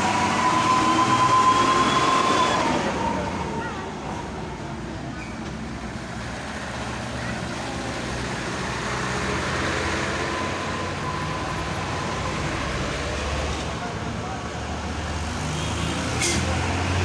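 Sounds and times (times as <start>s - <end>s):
road noise: 0.0s - 17.0s
vehicle engines humming: 0.0s - 17.0s.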